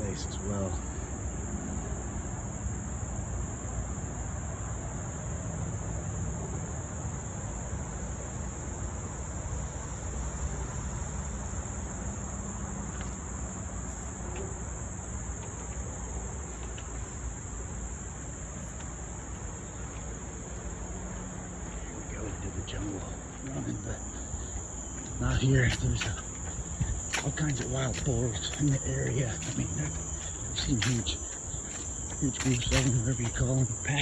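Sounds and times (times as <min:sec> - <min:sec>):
high-pitched insect chorus drone: 0:00.0 - 0:34.0.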